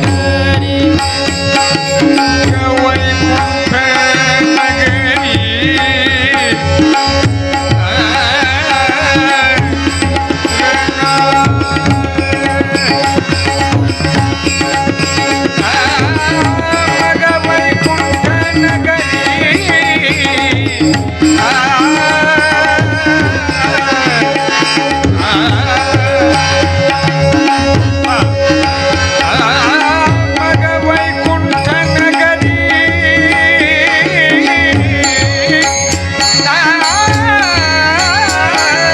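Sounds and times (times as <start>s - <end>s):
ornamented instrumental melody: 0.0s - 38.9s
tabla rhythm: 0.0s - 38.9s.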